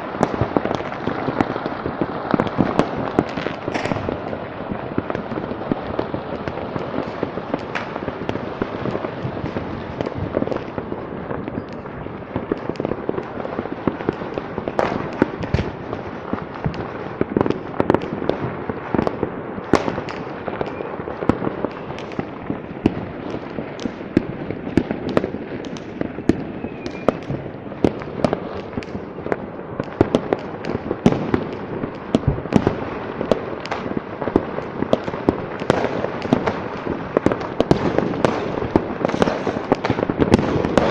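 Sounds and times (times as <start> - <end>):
fireworks and firecrackers banging: 0.0 - 40.9.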